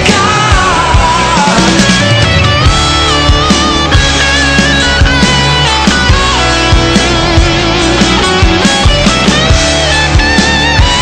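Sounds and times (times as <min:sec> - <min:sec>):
bass and drums: 0:00.0 - 0:11.0
electric guitar lead: 0:00.0 - 0:11.0.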